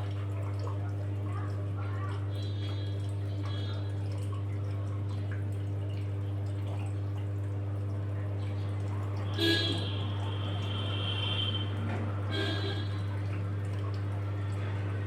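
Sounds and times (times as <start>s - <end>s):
washing machine humming: 0.0s - 15.0s
water dripping and splashing: 0.0s - 15.0s.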